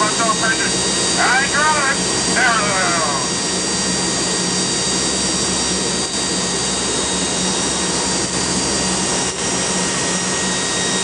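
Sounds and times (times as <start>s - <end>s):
high turbine whines: 0.0s - 11.0s
turboprop engines running: 0.0s - 11.0s.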